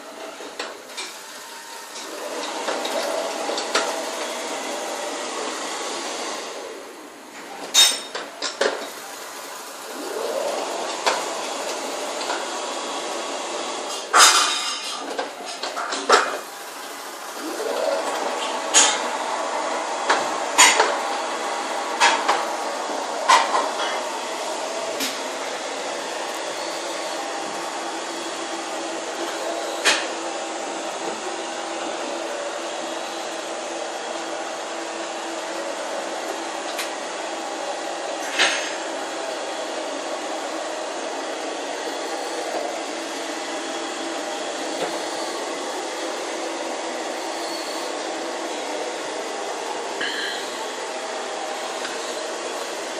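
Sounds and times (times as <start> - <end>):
vacuum cleaner humming: 0.0 - 52.9.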